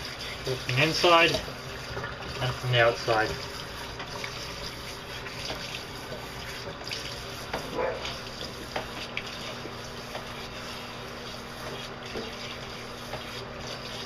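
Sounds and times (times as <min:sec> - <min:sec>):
shower spraying water: 0:00.0 - 0:14.0
water splashing and dripping: 0:00.0 - 0:14.0.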